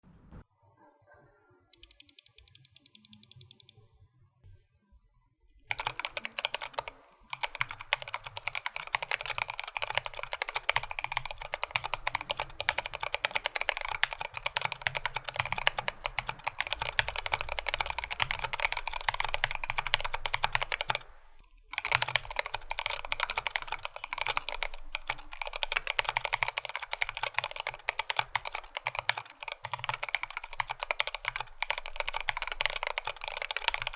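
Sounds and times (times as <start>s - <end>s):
mechanical keyboard typing: 1.8s - 3.8s, 5.7s - 21.1s, 21.7s - 33.9s.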